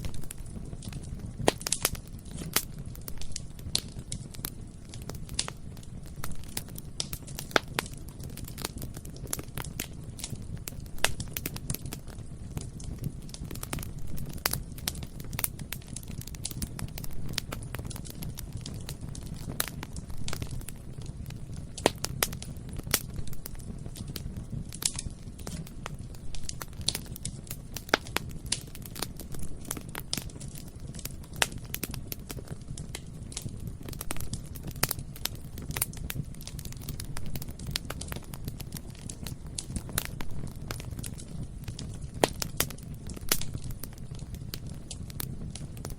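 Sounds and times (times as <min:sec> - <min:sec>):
burning wood crackling: 0:00.0 - 0:45.9
loud pops from fire: 0:00.0 - 0:45.9
low rumble of flames: 0:00.0 - 0:45.9.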